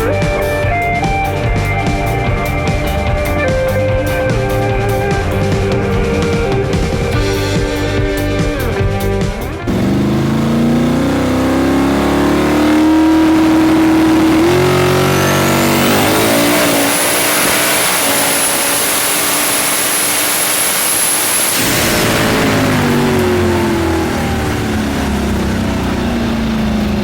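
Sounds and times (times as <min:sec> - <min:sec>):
drag car engine revving: 0:00.0 - 0:27.0
high whine: 0:00.0 - 0:27.0.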